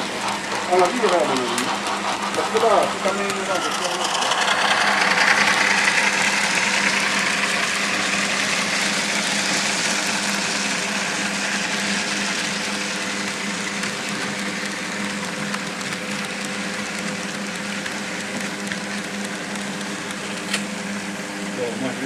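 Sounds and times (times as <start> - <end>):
model train motor whir: 0.0 - 20.6
wheels hissing on rails: 0.0 - 20.6.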